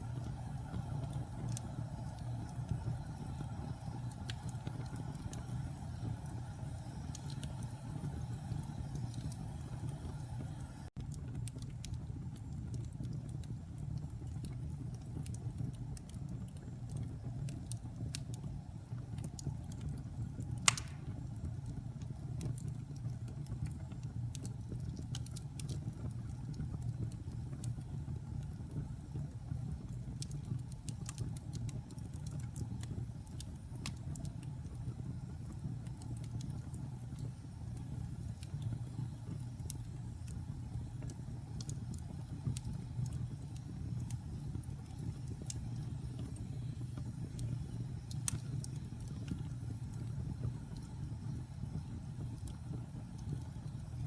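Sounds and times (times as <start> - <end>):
fire crackling and popping: 0.0 - 54.0
wood fire burning: 0.0 - 54.0.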